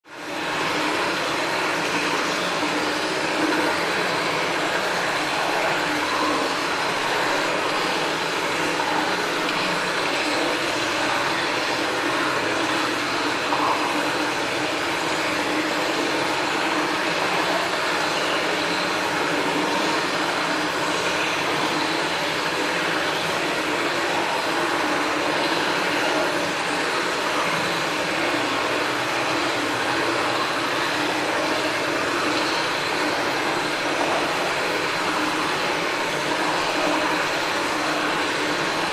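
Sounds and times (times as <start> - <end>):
cave ambience noise: 0.1 - 38.9.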